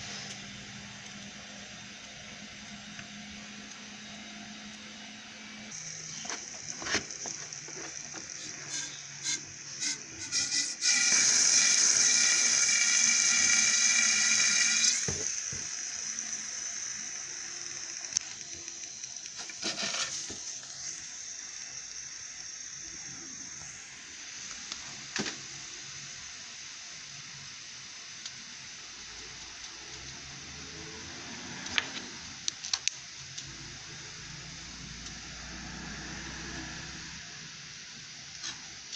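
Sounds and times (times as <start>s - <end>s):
liquid nitrogen hissing and bubbling: 5.7s - 38.9s.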